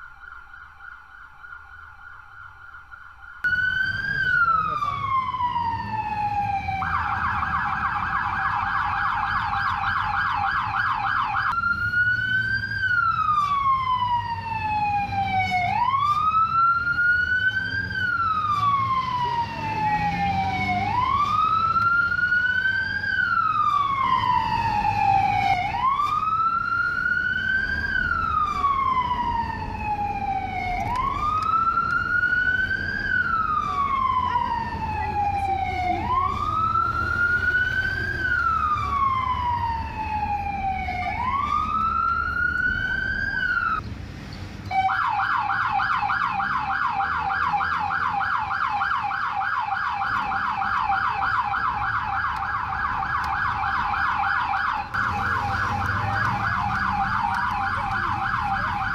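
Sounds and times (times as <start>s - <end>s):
police siren wailing: 0.0s - 43.8s, 44.7s - 58.9s
siren warbling yelp: 0.0s - 43.8s, 44.7s - 58.9s
engine and road rumble: 0.0s - 58.9s.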